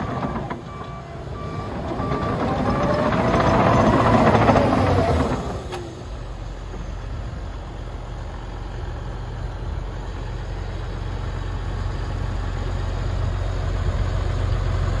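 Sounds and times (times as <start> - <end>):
diesel engine running low: 0.0 - 15.0.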